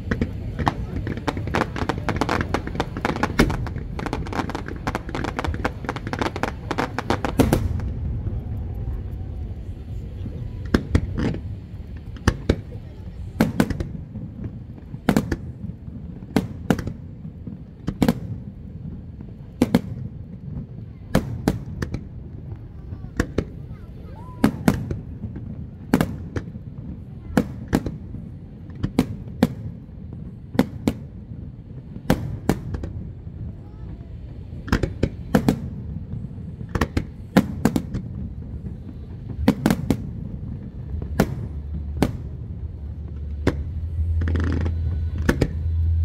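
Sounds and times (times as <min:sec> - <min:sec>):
fireworks crackling bangs: 0:00.0 - 0:46.0
fireworks sharp booms: 0:00.0 - 0:46.0.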